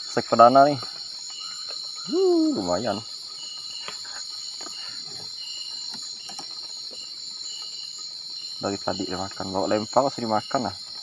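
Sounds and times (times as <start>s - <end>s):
high-pitched insect trill: 0.0s - 11.0s
insect short repeated calls: 0.0s - 11.0s.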